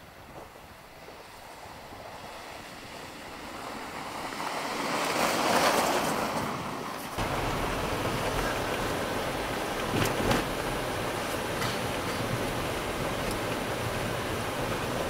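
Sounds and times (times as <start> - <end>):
tyres hissing on snow: 0.0 - 15.0.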